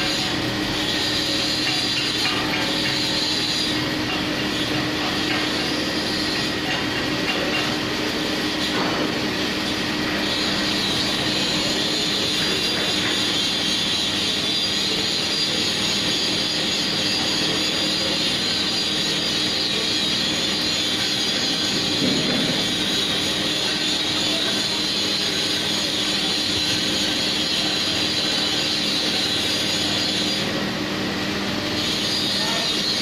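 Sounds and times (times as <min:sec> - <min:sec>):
machine hum with hiss: 0:00.0 - 0:33.0.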